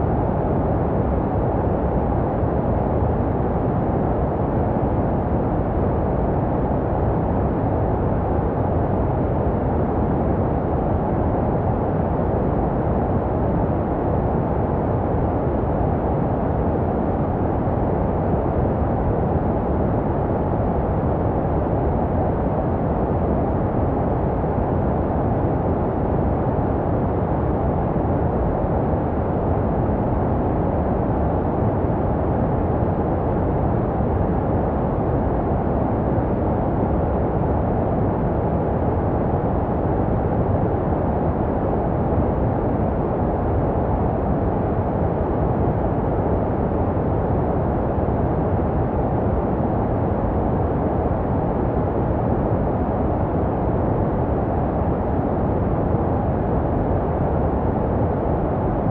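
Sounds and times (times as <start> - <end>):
muffled white noise: 0.0 - 58.9.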